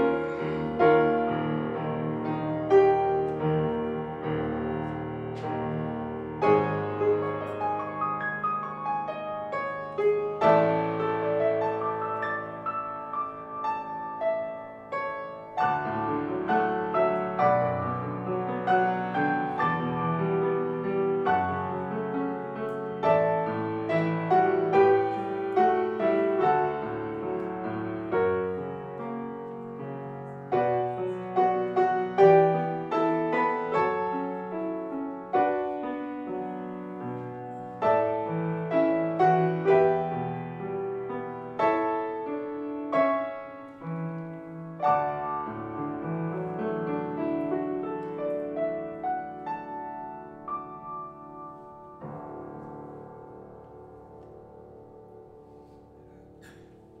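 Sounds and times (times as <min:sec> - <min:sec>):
piano playing: 0:00.0 - 0:57.0.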